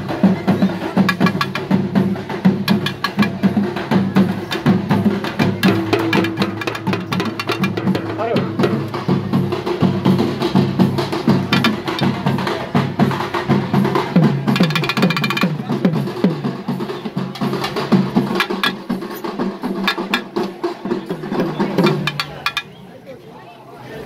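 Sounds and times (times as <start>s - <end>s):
drum roll: 0.0s - 22.7s
festival drumming: 0.0s - 23.2s.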